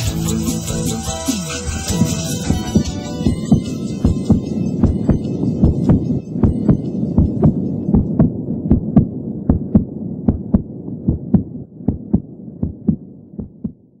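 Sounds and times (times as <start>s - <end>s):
deep throbbing pulses: 0.1s - 14.0s
low hum: 0.6s - 14.0s.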